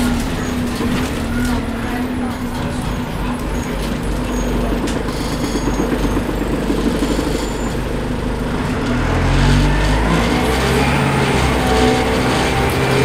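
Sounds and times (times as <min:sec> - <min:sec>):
bus diesel engine working hard: 0:00.0 - 0:13.0.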